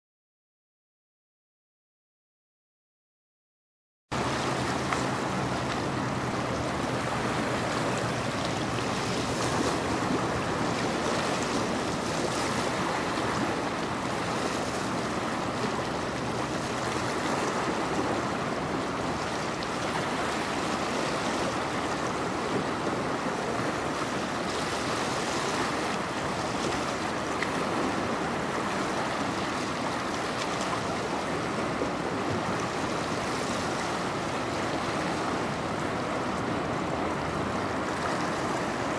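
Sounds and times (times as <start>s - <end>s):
river water rushing and lapping: 4.1s - 38.9s.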